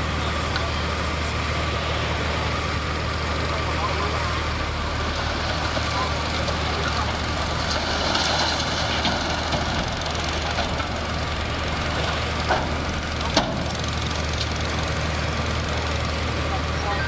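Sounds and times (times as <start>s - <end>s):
dump truck diesel engine running: 0.0s - 17.0s.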